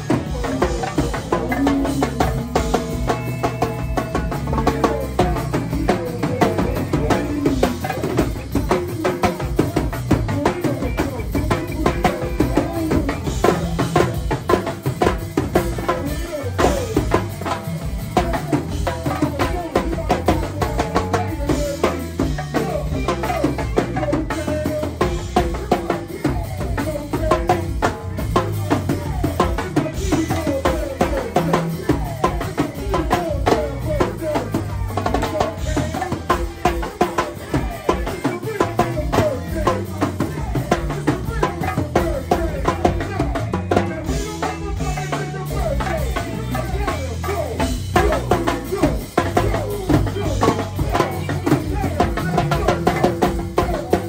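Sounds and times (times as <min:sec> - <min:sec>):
bass line: 0:00.0 - 0:54.0
drum kit: 0:00.0 - 0:54.0.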